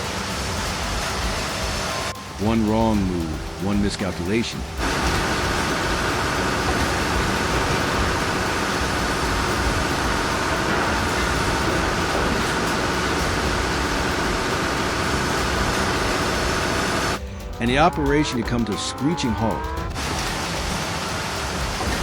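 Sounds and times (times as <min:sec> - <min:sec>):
heavy diesel machinery rumbling: 0:00.0 - 0:22.0.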